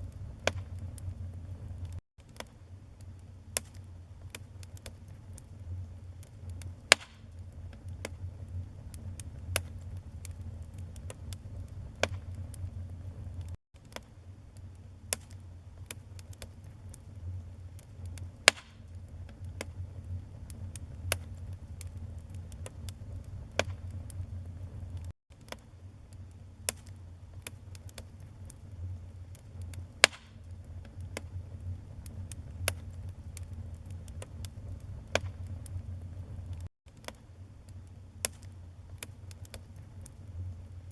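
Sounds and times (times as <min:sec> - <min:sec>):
low rumble of flames: 0:00.0 - 0:40.9
wood crackling and popping: 0:00.0 - 0:40.9.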